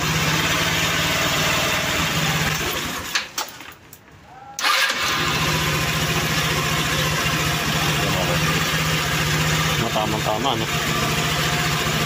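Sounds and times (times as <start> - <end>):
scooter engine idling: 0.0 - 3.1, 4.6 - 12.0.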